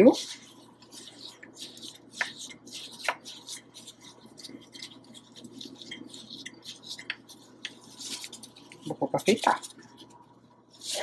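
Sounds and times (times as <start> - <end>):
scratchy rustling of gloved hand: 0.0 - 11.0.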